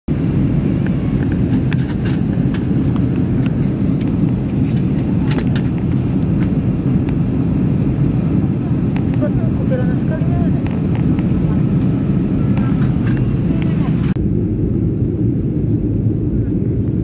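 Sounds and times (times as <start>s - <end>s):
airliner cabin roar: 0.1s - 17.0s.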